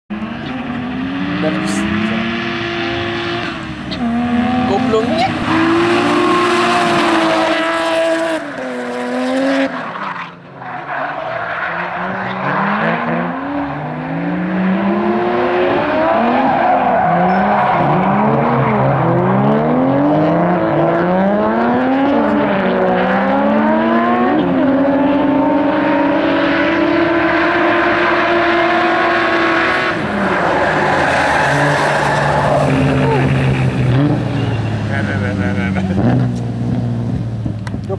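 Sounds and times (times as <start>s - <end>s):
car engine revving hard: 0.1s - 10.1s, 11.7s - 37.6s.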